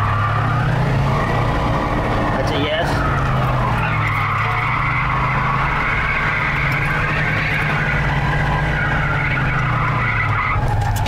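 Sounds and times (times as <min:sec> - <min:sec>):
car engine at high revs: 0:00.0 - 0:11.0
tyres squealing: 0:00.0 - 0:11.0.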